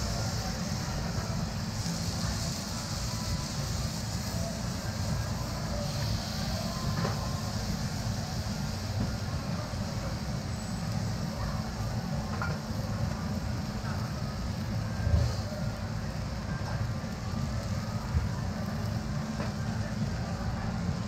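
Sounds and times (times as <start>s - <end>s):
food sizzling on a griddle: 0.0s - 21.0s
low rumble of burners: 0.0s - 21.0s.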